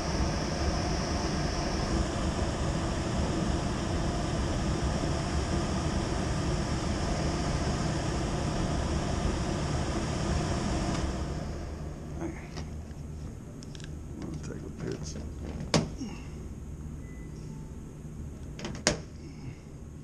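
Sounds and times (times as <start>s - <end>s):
blower fan rushing air: 0.0s - 20.0s.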